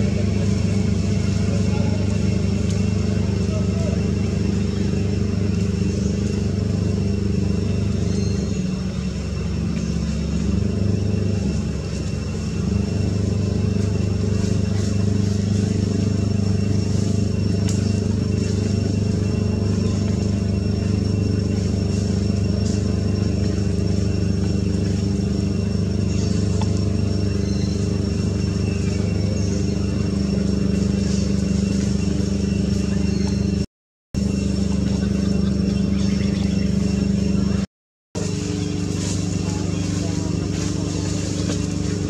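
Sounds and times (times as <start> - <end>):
engine droning: 0.0 - 42.0.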